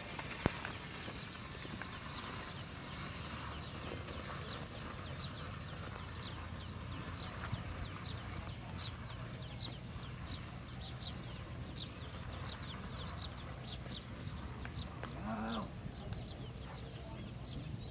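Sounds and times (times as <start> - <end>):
bird chirping: 0.0 - 17.9.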